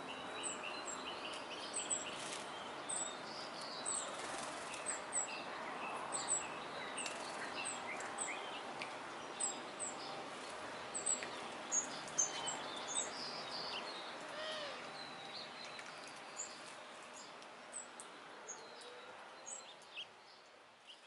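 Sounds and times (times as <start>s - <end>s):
outdoor background hiss: 0.0s - 21.0s
songbirds chirping: 0.0s - 21.0s.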